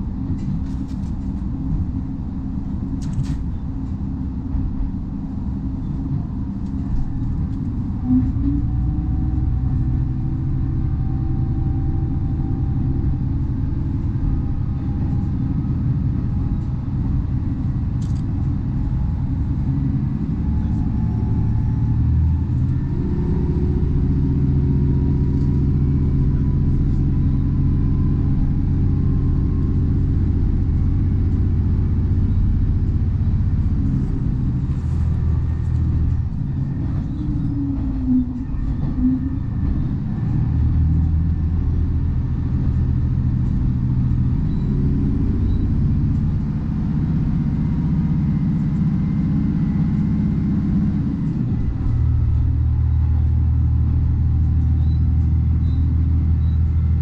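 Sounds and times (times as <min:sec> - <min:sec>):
diesel railcar engine hum: 0:00.0 - 0:57.0
train wheels rumbling on rails: 0:00.0 - 0:57.0.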